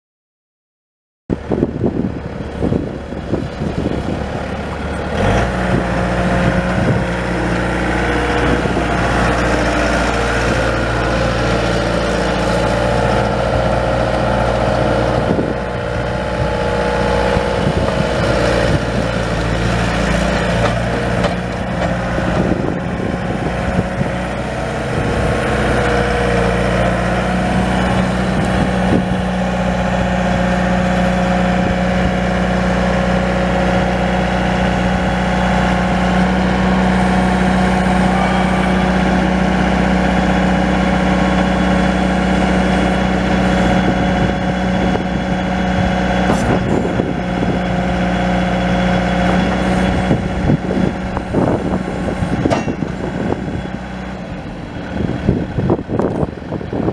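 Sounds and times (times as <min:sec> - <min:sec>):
diesel engine running: 0:01.3 - 0:56.9.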